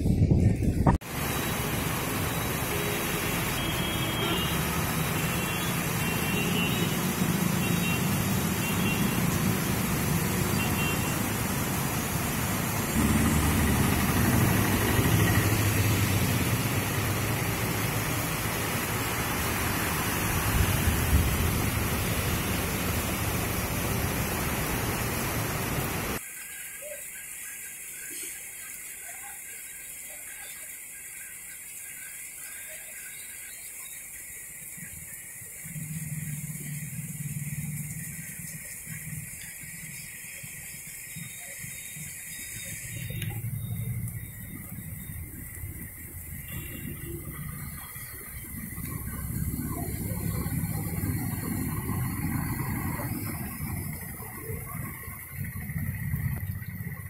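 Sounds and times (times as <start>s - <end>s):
heavy rain hissing: 0.0s - 57.0s
scooters and cars passing on wet road: 1.0s - 26.2s, 34.2s - 57.0s.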